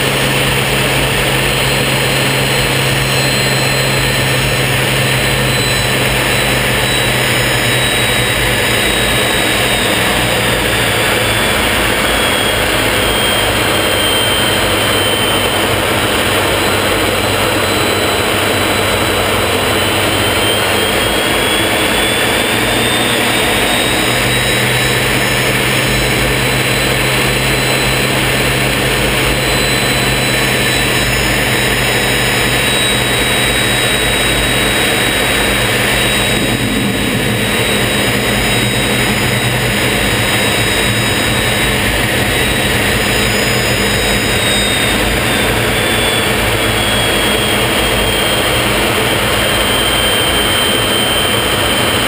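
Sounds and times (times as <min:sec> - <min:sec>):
jet engine roar with high whine: 0:00.0 - 0:52.0
rushing airflow: 0:00.0 - 0:52.0.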